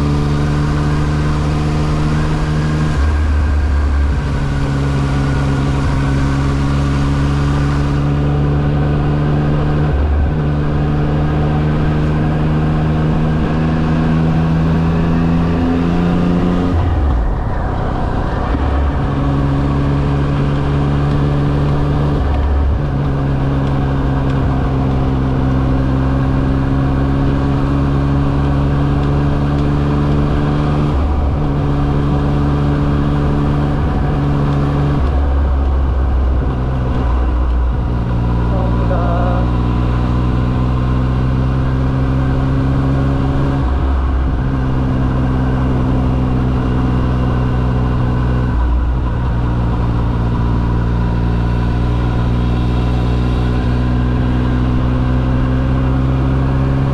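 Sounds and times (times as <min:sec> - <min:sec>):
wind noise: 0:00.0 - 0:38.6, 0:39.3 - 0:56.9
motorcycle engine pulling steadily: 0:00.0 - 0:56.9.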